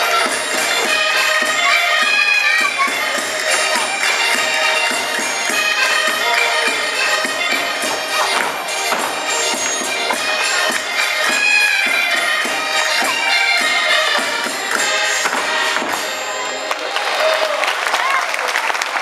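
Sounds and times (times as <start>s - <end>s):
steady percussion beat: 0.0s - 16.5s
folk dance melody: 0.0s - 17.5s.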